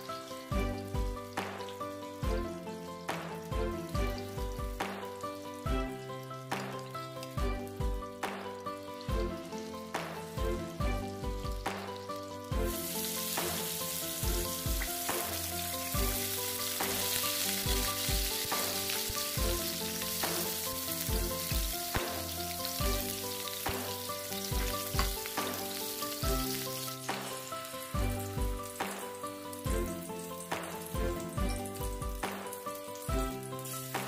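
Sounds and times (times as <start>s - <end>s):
background music with beat: 0.0s - 34.0s
eggplant sizzling in a pan: 0.0s - 34.0s.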